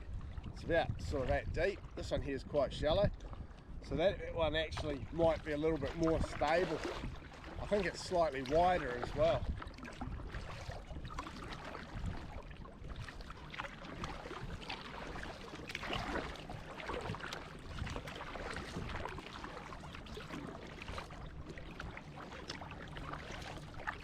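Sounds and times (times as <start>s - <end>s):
water splashing around kayak: 0.0s - 24.0s.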